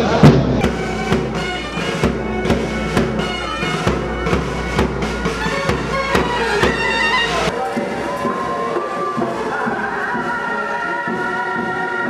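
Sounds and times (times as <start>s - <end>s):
drum beat: 0.2s - 12.0s
droning wind instrument melody: 0.6s - 12.0s.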